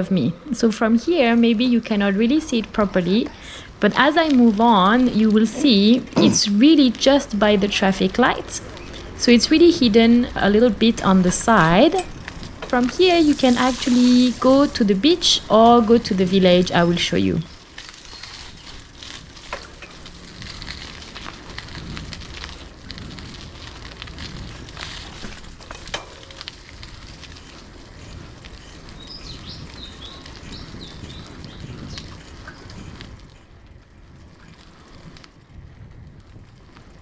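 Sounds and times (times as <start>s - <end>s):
bicycle tyres rumbling on road: 0.0s - 37.0s
crackling and small rattles: 0.8s - 37.0s.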